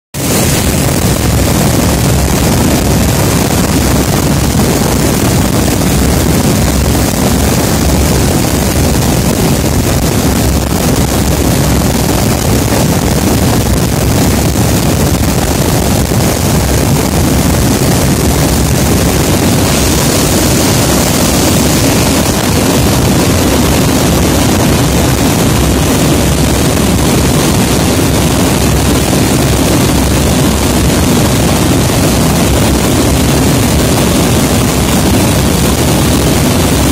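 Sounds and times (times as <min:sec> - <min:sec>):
rushing slipstream: 0:00.2 - 0:36.9
turboprop engines droning: 0:00.2 - 0:36.9
wind on microphone: 0:00.2 - 0:36.9.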